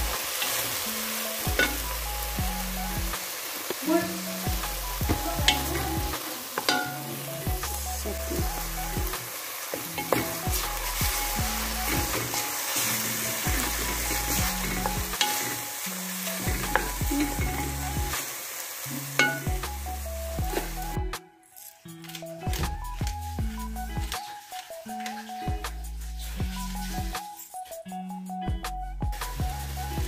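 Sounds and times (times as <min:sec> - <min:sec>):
onion and tomato sizzling in oil: 0:00.0 - 0:27.9, 0:29.1 - 0:30.0.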